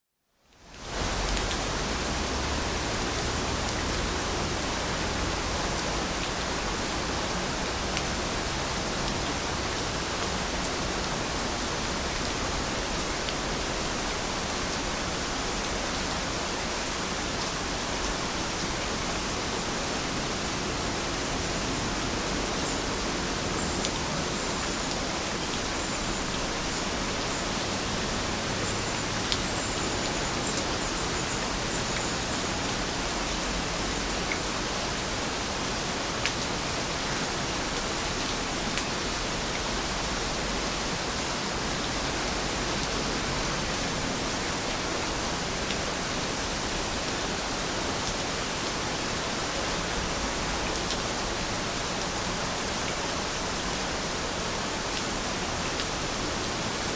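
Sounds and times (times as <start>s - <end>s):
steady rain hiss: 0.3s - 56.9s.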